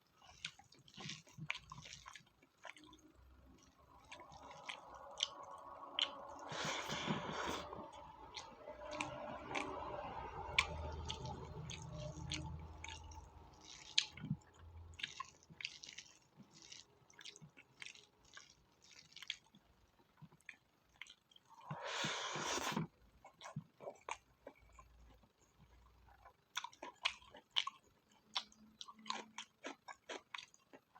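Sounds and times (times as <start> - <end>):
wet chewing and mouth smacks: 0.2 - 21.8, 22.5 - 30.9.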